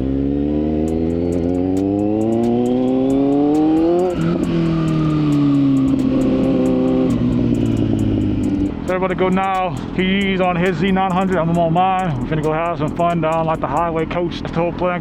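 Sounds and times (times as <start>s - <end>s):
motorcycle engine accelerating: 0.0s - 14.2s.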